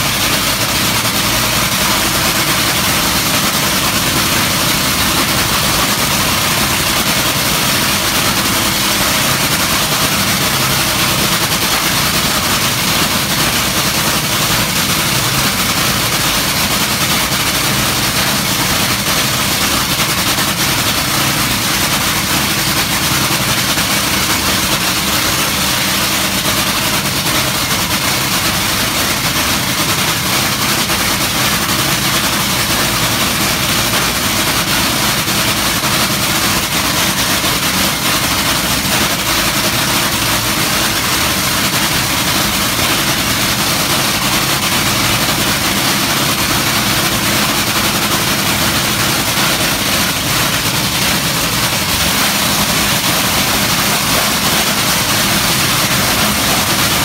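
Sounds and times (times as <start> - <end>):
dragster engine idling: 0.0 - 57.0.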